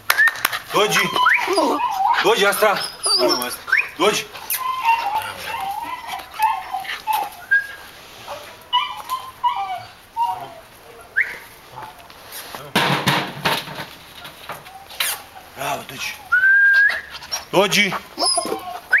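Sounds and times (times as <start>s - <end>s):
puppy whining and yelping: 0.2s - 12.0s, 14.2s - 19.0s.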